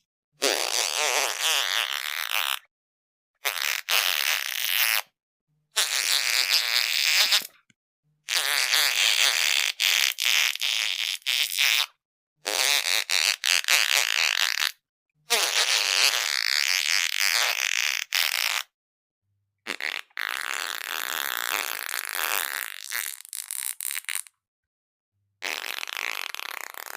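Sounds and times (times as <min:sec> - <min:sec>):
raspy fart sounds: 0:00.4 - 0:02.7, 0:03.4 - 0:05.1, 0:05.8 - 0:07.6, 0:08.3 - 0:18.7, 0:19.6 - 0:24.3, 0:25.4 - 0:26.9.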